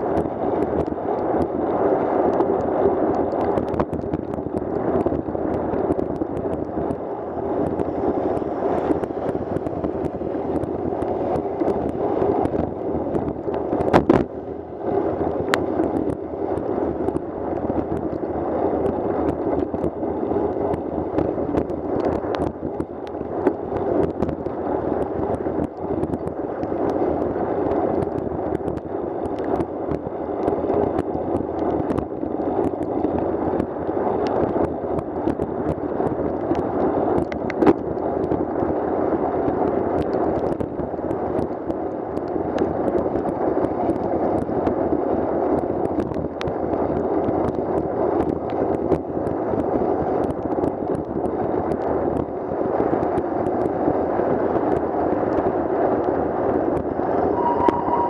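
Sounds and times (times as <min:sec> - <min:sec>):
wind on microphone: 0:00.0 - 0:58.0.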